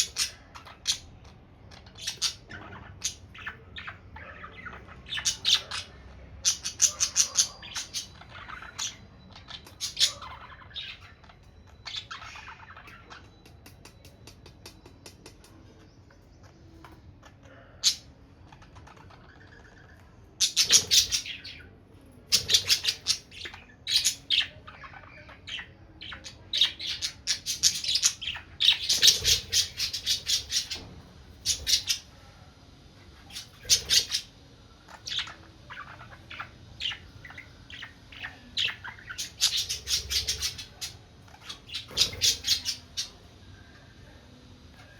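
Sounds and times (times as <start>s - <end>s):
budgerigar chirping and squawking: 0.0s - 13.4s, 17.3s - 32.1s, 33.3s - 43.2s.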